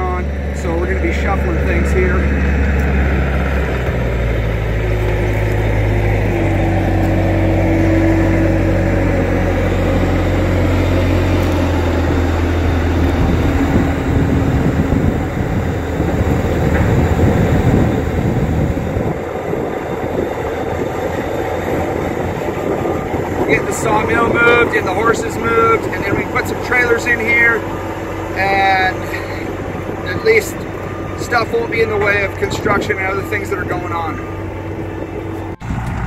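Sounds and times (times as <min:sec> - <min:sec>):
machine whine: 0:00.0 - 0:36.0
track loader diesel engine: 0:00.0 - 0:36.0.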